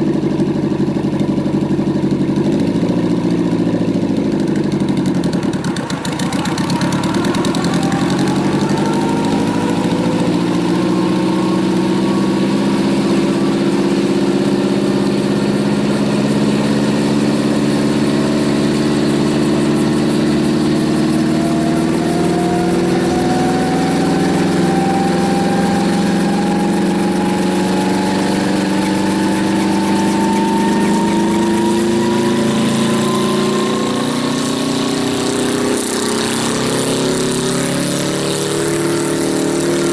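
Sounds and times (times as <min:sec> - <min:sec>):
helicopter engine running: 0:00.0 - 0:39.9.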